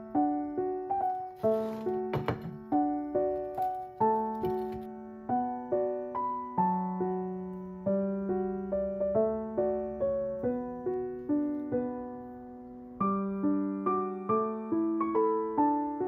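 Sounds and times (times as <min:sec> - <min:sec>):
slow solo piano melody: 0:00.0 - 0:16.0.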